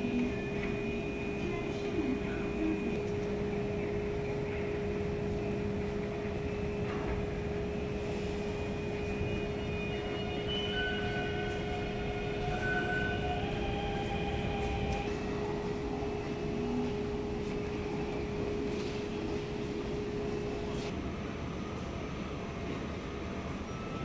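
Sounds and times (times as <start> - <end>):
constant hum: 0.0 - 21.8
train rumbling through station: 0.0 - 24.0.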